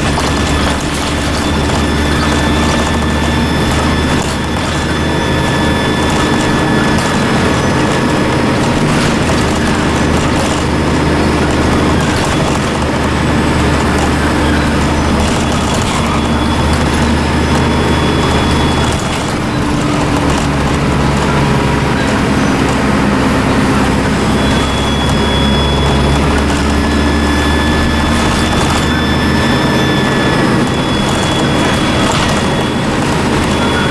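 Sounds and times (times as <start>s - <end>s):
bus diesel engine running: 0.0s - 33.9s
high turbo whistle: 0.0s - 33.9s.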